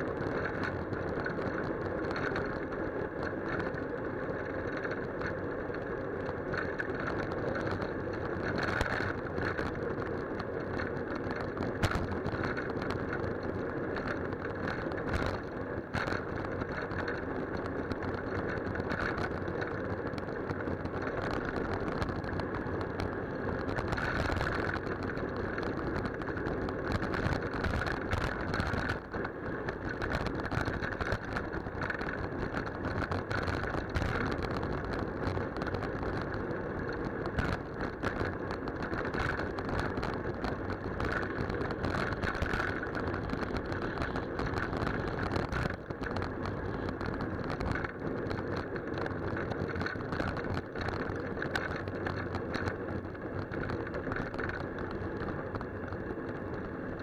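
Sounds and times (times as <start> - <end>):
bicycle road and wind noise: 0.0 - 57.0.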